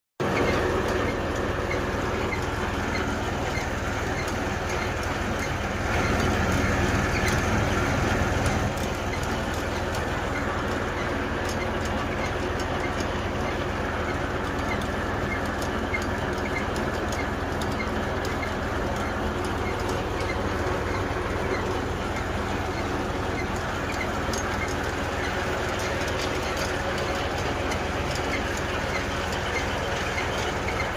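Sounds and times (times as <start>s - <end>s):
machinery clicks and knocks: 0.2s - 30.9s
tractor diesel engine running: 0.2s - 30.9s.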